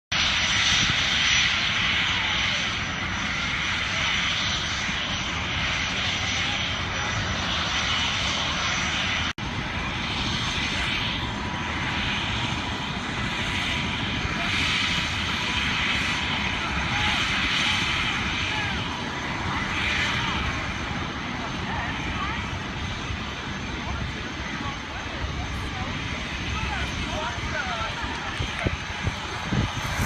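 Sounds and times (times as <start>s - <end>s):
helicopter engine and rotors: 0.1s - 30.0s.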